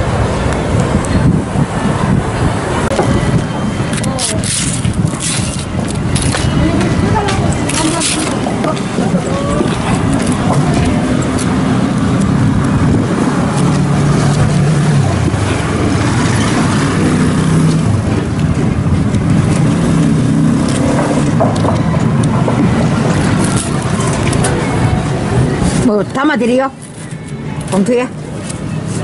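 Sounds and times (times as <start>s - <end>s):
street traffic engine hum: 0.0s - 29.0s.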